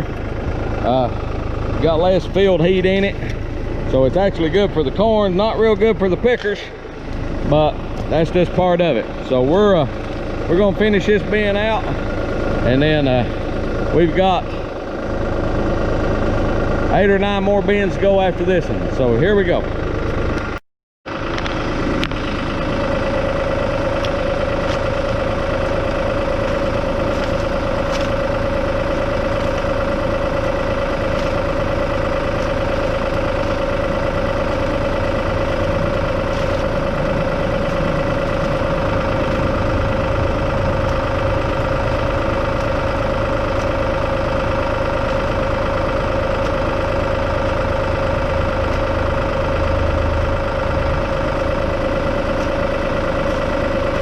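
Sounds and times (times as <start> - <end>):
tractor engine droning: 0.0 - 54.0.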